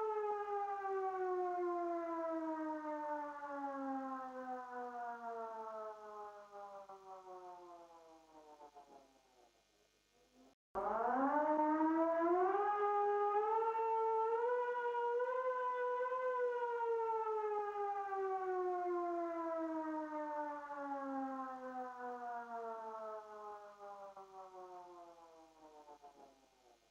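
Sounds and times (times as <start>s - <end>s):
civil defence siren wailing: 0.0s - 9.0s, 10.8s - 26.5s.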